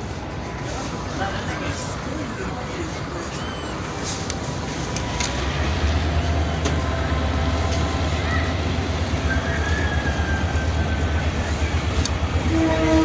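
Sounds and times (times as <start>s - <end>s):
passenger train running: 0.0s - 13.0s.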